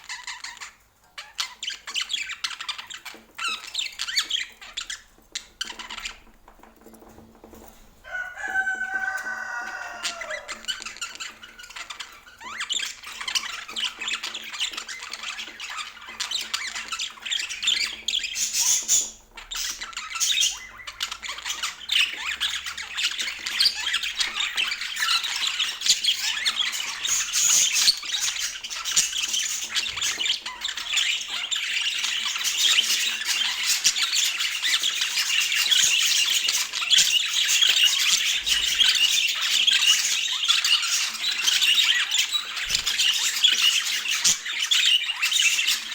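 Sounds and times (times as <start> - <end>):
budgerigars chattering: 0.0 - 6.3, 8.5 - 45.9.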